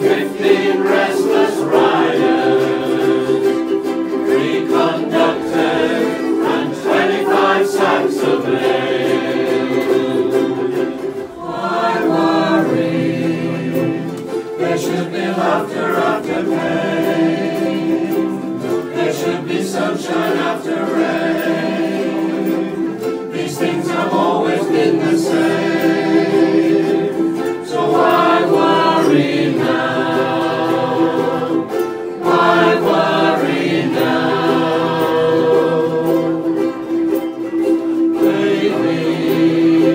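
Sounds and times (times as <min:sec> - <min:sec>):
group singing in unison: 0:00.0 - 0:39.9
ukuleles strumming: 0:00.0 - 0:39.9.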